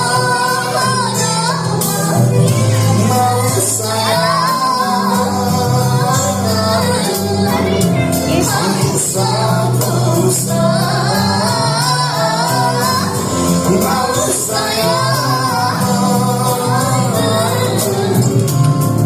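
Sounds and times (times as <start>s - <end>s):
backing music with bass and percussion: 0.0s - 19.0s
person singing powerfully: 0.0s - 19.0s.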